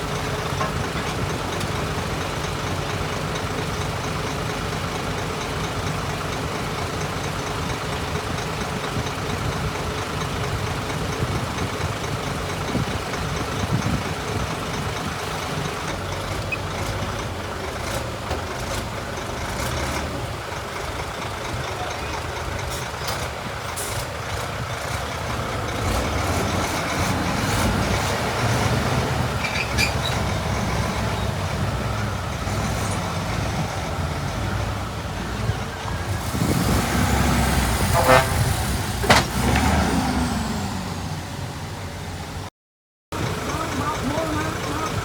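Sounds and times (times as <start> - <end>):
diesel machinery running: 0.0 - 42.5, 43.1 - 45.0.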